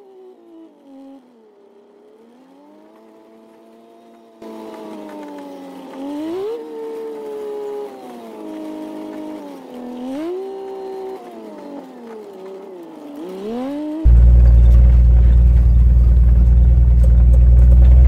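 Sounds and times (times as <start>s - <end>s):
bus engine running: 1.5s - 18.0s.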